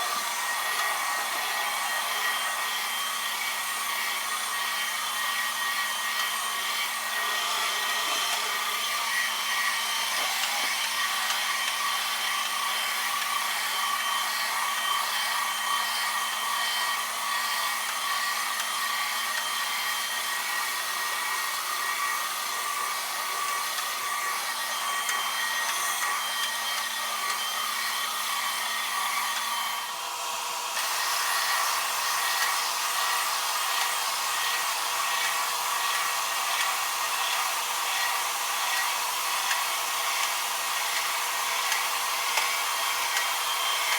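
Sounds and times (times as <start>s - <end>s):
carpet cleaning machine whooshing: 0.0s - 43.9s.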